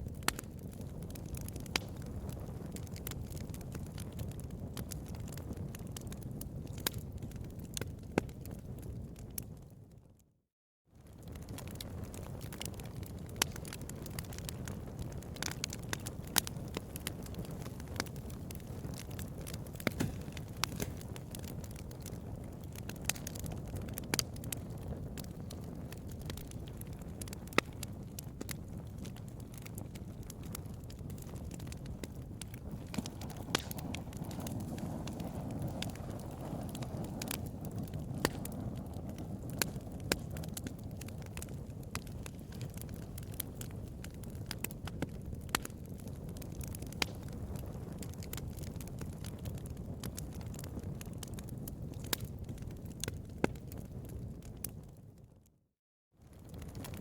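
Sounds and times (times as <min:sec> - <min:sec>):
burning wood popping and snapping: 0:00.0 - 0:09.5, 0:11.0 - 0:55.0, 0:56.3 - 0:57.0
bonfire crackling: 0:00.0 - 0:10.0, 0:11.0 - 0:55.4, 0:56.2 - 0:57.0.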